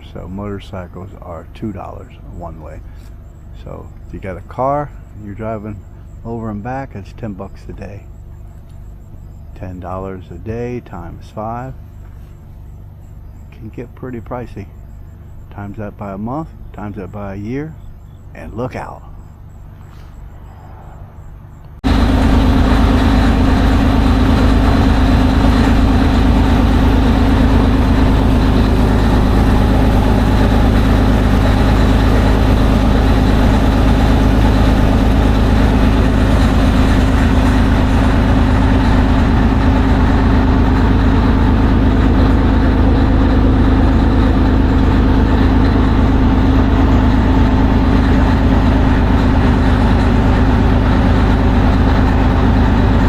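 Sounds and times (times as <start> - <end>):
diesel engine rumbling: 0.0 - 53.0.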